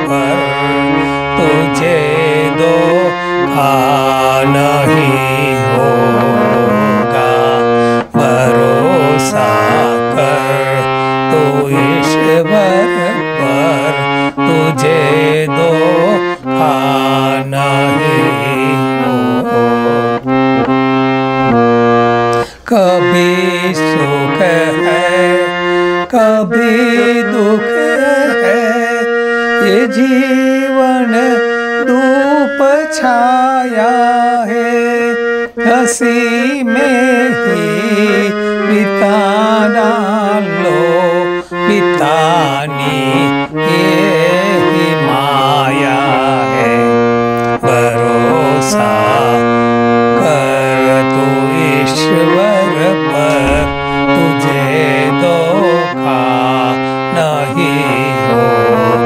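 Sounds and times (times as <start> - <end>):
harmonium playing chords: 0.0 - 59.0.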